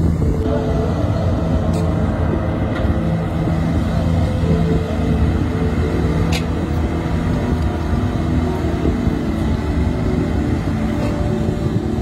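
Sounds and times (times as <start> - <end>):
crane engine running: 0.0 - 12.0.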